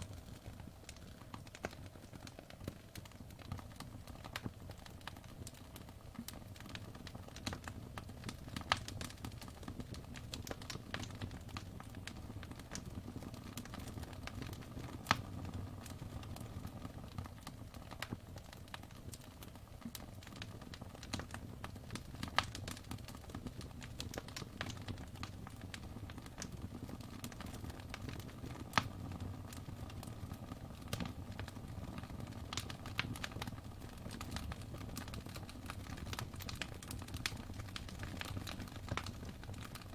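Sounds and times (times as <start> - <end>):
fire pops: 0.0 - 39.9
low rumble of flames: 0.0 - 39.9
wood fire crackling: 0.0 - 39.9.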